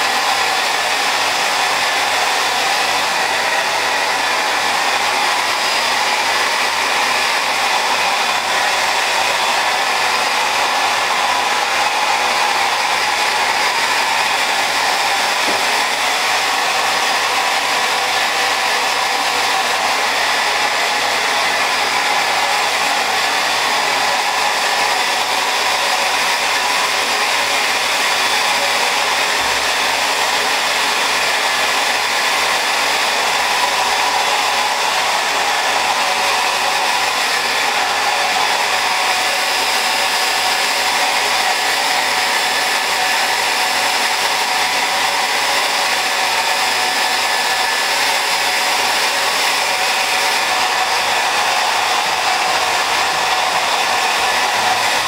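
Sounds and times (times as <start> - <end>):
hair dryer blowing air: 0.0 - 55.0.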